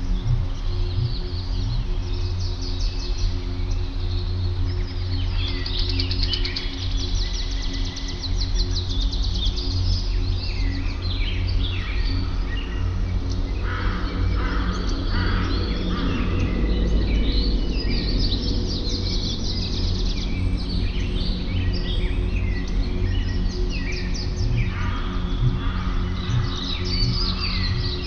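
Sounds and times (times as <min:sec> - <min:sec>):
birds chirping and trilling: 0:00.0 - 0:28.0
steady low hum: 0:00.0 - 0:28.0.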